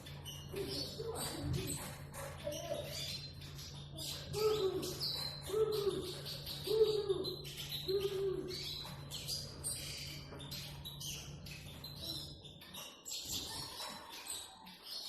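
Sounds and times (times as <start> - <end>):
bird twittering and trilling: 0.0 - 15.0.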